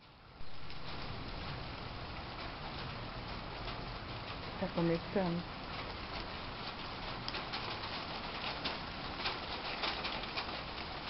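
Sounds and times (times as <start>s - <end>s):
rain pattering on foliage: 0.0s - 11.0s.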